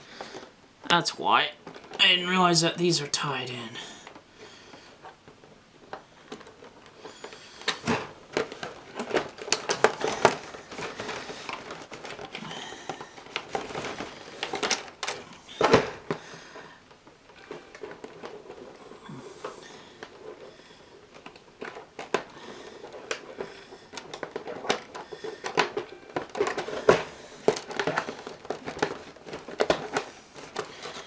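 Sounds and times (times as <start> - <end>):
plastic packaging crinkling and clicking: 0.0 - 2.3, 3.6 - 31.0.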